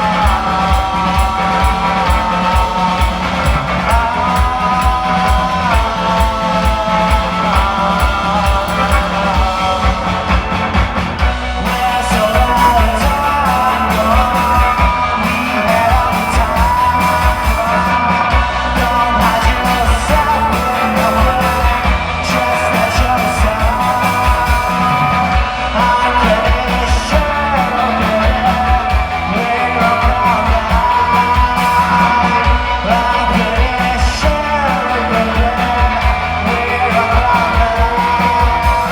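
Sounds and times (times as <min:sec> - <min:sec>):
drum beat: 0:00.0 - 0:38.9
lead singer: 0:00.0 - 0:38.9
pop-rock band playing live: 0:00.0 - 0:38.9.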